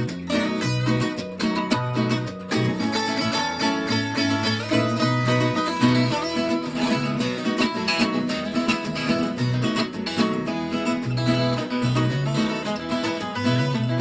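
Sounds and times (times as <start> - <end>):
plucked acoustic guitar music: 0.0 - 14.0.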